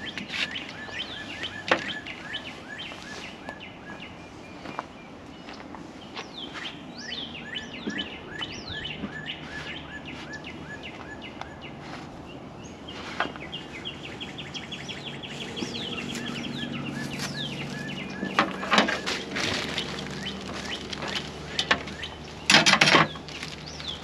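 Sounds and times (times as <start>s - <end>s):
songbirds singing: 0.0s - 24.0s.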